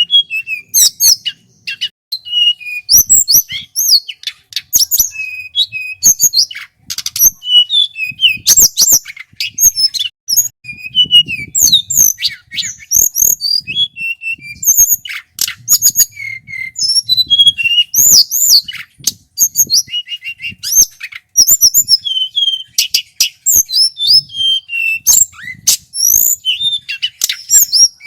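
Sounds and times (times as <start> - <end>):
bird singing whistled notes: 0.0 - 28.0.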